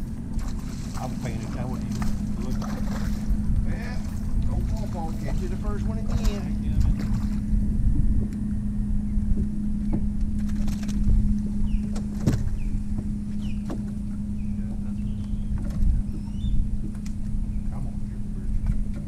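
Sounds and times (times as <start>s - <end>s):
boat motor humming: 0.0s - 19.0s
low wind rumble: 0.0s - 19.0s.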